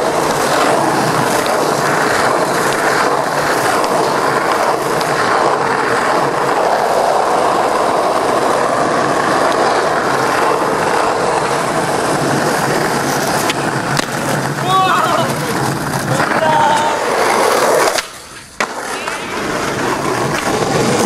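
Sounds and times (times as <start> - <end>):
skateboard wheels rolling on asphalt: 0.0 - 21.0.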